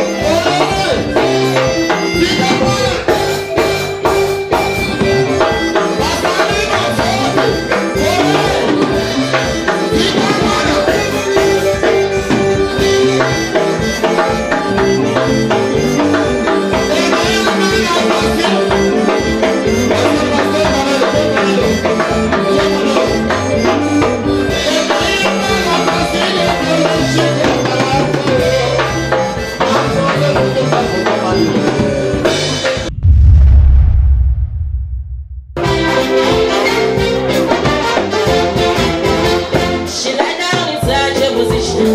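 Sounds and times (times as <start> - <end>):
live band playing instrumental: 0.0 - 32.9, 35.6 - 41.9.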